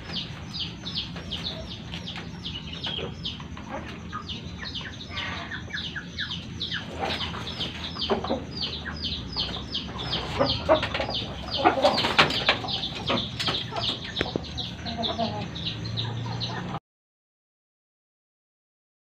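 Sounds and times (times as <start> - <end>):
chickens clucking: 0.0 - 16.8
chicks peeping: 0.0 - 16.8.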